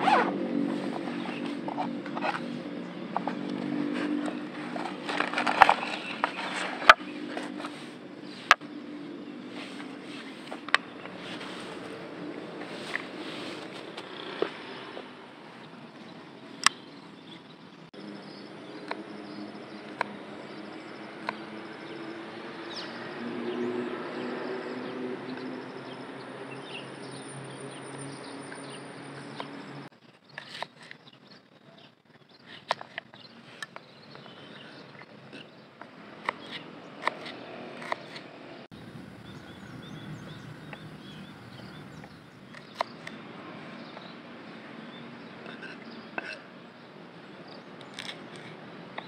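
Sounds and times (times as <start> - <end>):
outdoor background hum: 0.0 - 49.0.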